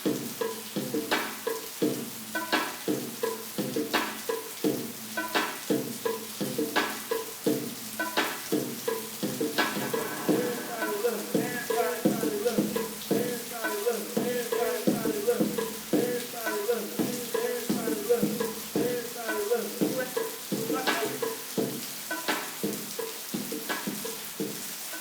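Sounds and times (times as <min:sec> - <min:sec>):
muffled rhythmic music beat: 0:00.0 - 0:25.0
steady rain hissing: 0:00.0 - 0:25.0.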